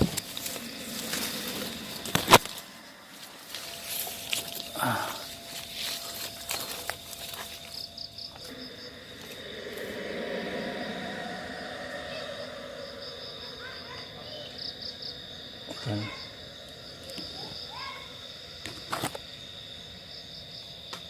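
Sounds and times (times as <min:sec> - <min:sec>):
insects trilling: 0:00.0 - 0:21.0
pulsed insect chirping: 0:00.0 - 0:21.0.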